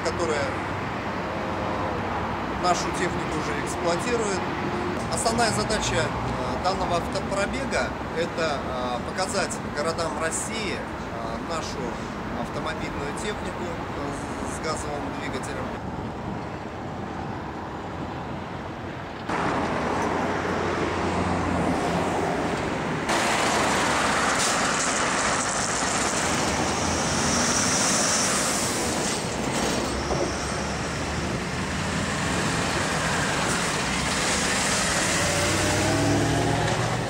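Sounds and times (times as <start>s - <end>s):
trucks and bus driving past: 0.0s - 37.0s.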